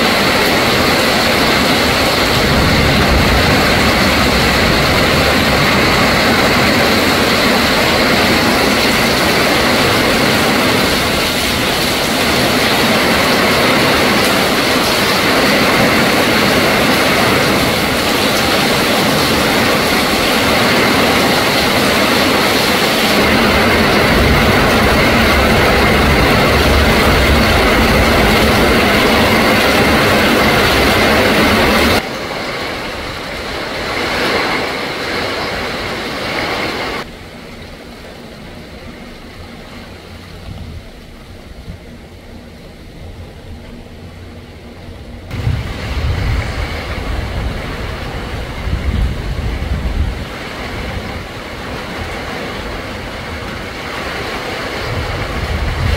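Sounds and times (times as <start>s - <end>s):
heavy rain pouring: 0.0s - 55.9s
storm wind gusting through trees: 0.0s - 55.9s
wind buffeting microphone: 0.0s - 55.9s.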